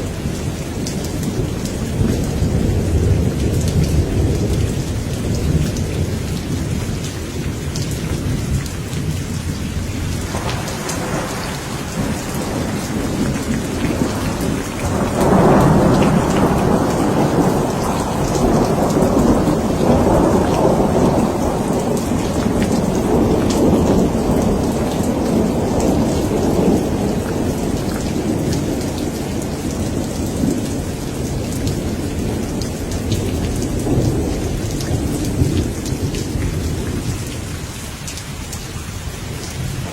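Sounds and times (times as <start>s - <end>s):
steady rain falling: 0.0s - 39.9s
rolling thunder rumble: 0.1s - 37.9s, 39.3s - 39.9s.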